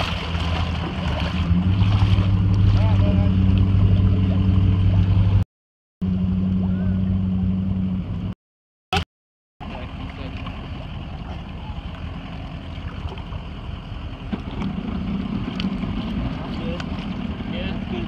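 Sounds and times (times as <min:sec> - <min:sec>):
motorboat engine humming: 0:00.0 - 0:05.4, 0:06.0 - 0:08.4, 0:09.6 - 0:18.0
rough engine and water rumble: 0:00.0 - 0:18.0.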